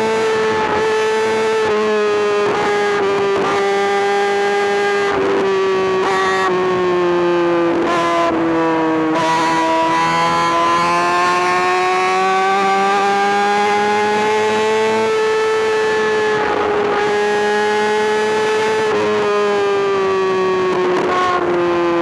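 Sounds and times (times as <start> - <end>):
motorcycle engine revving high: 0.0 - 22.0.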